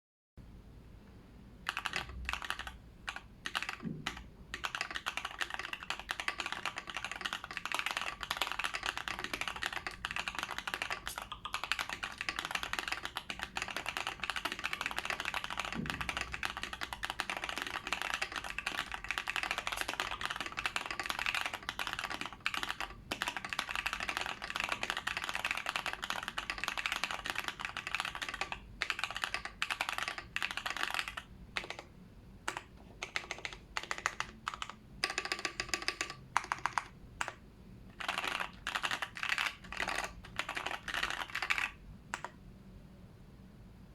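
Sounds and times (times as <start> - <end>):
mechanical keyboard typing: 1.6 - 31.9, 32.5 - 42.4.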